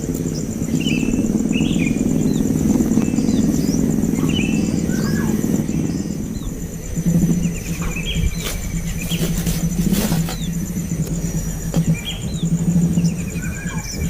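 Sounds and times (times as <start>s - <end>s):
high pulsing drone: 0.0s - 14.0s
low hum: 0.0s - 14.0s
baby birds chirping: 0.3s - 14.0s.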